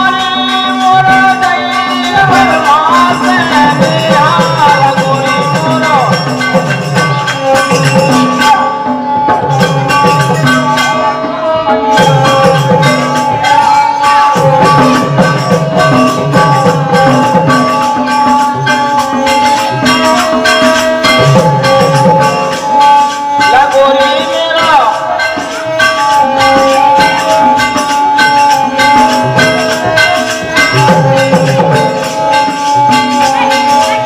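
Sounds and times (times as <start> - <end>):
hand drum rhythm: 0.0 - 34.0
harmonium melody: 0.0 - 34.0
light jingling percussion: 0.0 - 34.0.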